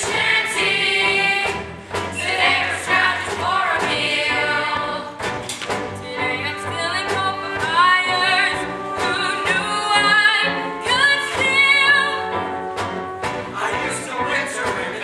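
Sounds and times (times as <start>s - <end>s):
chorus singing: 0.0s - 15.0s
instrumental accompaniment: 0.0s - 15.0s.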